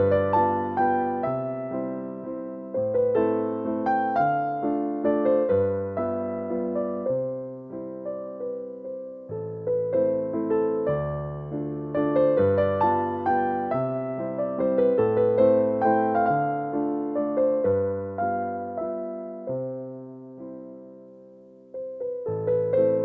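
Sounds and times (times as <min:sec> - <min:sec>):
gentle electric piano music: 0:00.0 - 0:23.0.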